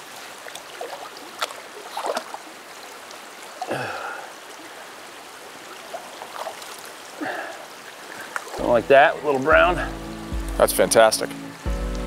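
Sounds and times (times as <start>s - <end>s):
river current flowing: 0.0s - 12.0s.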